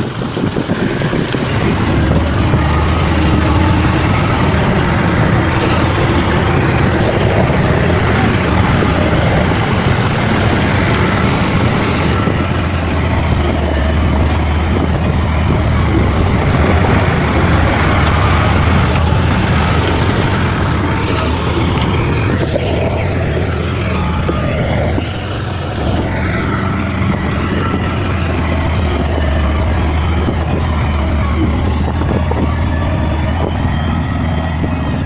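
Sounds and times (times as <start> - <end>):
bulldozer diesel engine drone: 0.0 - 35.0.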